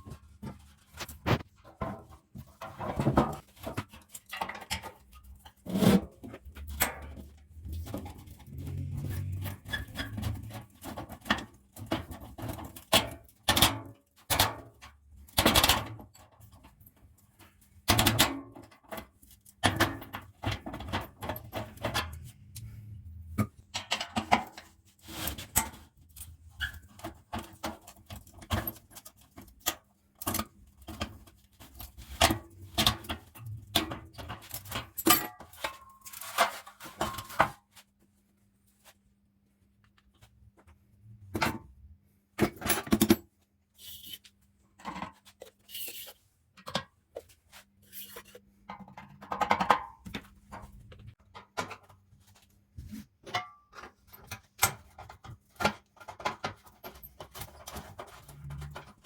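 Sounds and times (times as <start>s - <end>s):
hand tools and metal parts clinking: 0.0s - 37.6s, 42.4s - 52.0s, 53.2s - 59.0s.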